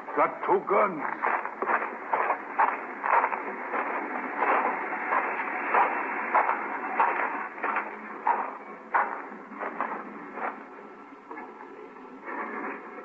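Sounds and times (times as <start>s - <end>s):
footsteps walking: 0.0s - 10.7s.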